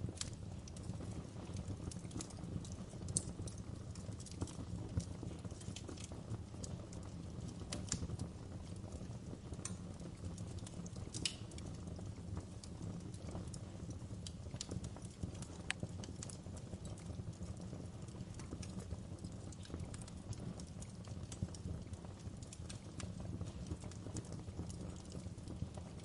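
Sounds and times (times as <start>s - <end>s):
low rumble of burning: 0.0s - 26.0s
wood fire crackling and popping: 0.0s - 26.0s.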